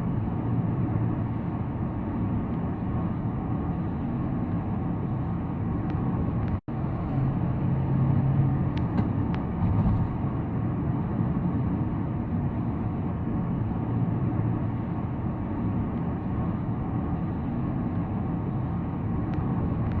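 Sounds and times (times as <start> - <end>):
car tyres and engine rumble: 0.0 - 20.0.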